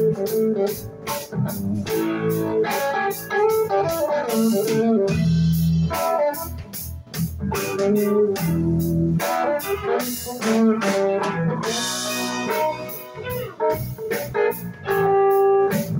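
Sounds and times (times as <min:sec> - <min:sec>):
blues-rock band playing: 0:00.0 - 0:15.9.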